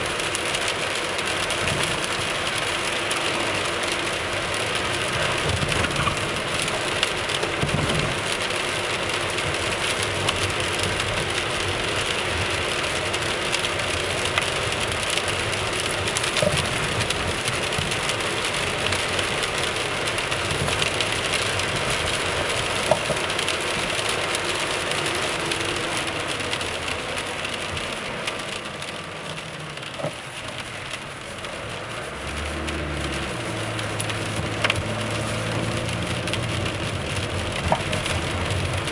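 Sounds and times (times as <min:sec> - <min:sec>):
road and tyre noise: 0:00.0 - 0:38.9.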